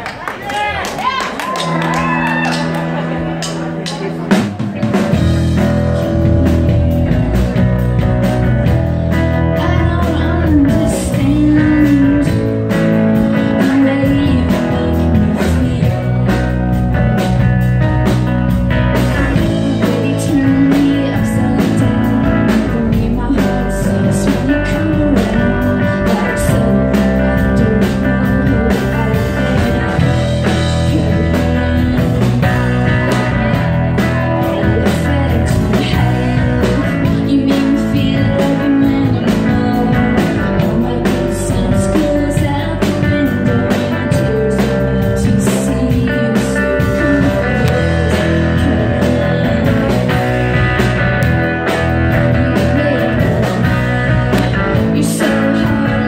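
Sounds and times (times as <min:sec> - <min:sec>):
live rock band playing: 0:00.2 - 0:56.0
woman singing lead: 0:04.2 - 0:56.0.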